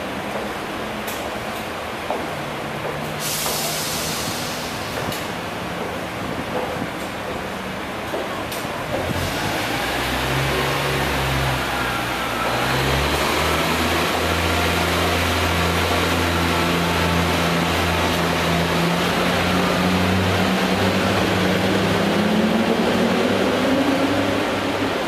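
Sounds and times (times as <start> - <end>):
train diesel engines running: 0.0 - 25.0.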